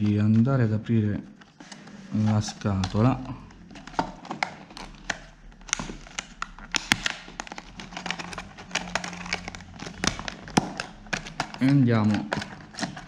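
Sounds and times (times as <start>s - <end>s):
stiff plastic packaging crackling: 0.0s - 13.0s.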